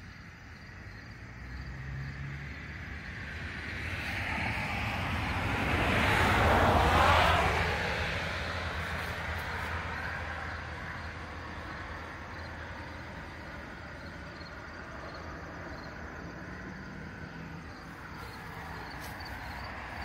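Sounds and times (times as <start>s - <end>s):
vehicle passing: 0.6s - 20.0s.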